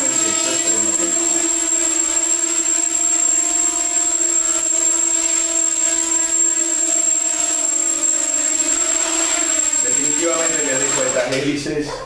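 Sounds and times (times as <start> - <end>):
quadcopter motors buzzing whine: 0.0 - 11.8.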